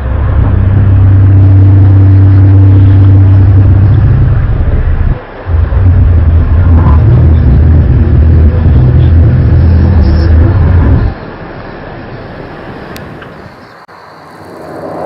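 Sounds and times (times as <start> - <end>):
deep rumbling drone: 0.0 - 15.0
low hum tones: 0.0 - 15.0.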